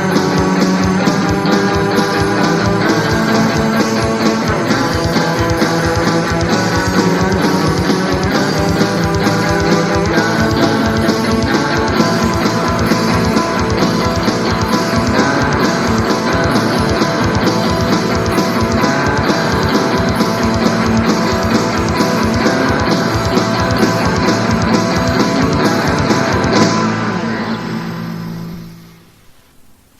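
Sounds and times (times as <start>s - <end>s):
fast drum strokes: 0.0s - 28.7s
bass guitar: 0.0s - 29.1s
electric guitar: 0.0s - 29.6s.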